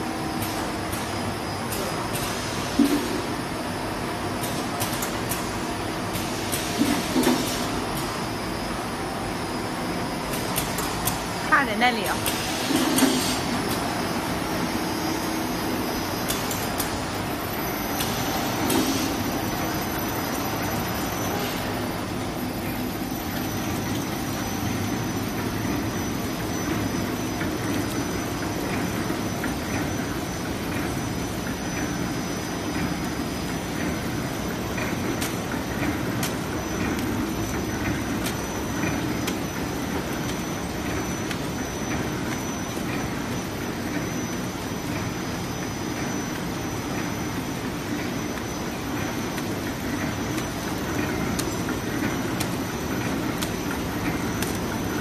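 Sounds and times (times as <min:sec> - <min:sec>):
packing machine whir and clatter: 0:00.0 - 0:55.0.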